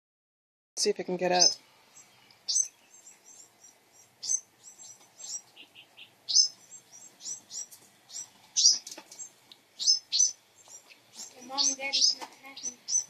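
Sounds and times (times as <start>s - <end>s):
songbirds chirping: 0.8s - 13.0s
low bird notes: 1.3s - 13.0s.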